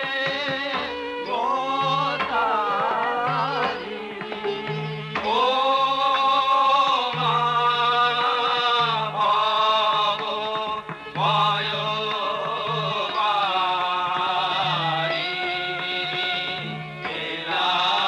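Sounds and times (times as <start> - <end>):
drum accompaniment: 0.0 - 18.0
harmonium melody: 0.0 - 18.0
person singing: 0.0 - 18.0.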